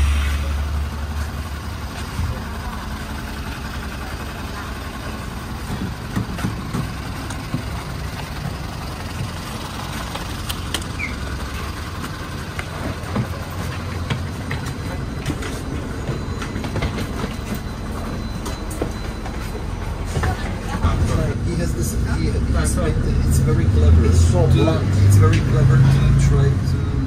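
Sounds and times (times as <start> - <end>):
bus engine rumbling: 0.0 - 27.0.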